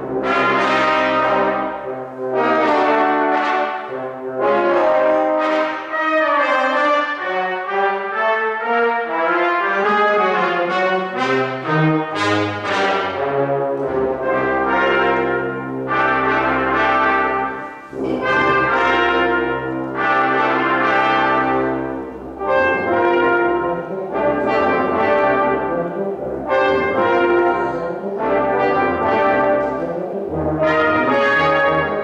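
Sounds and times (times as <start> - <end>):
brass ensemble playing jazz: 0.0 - 32.0.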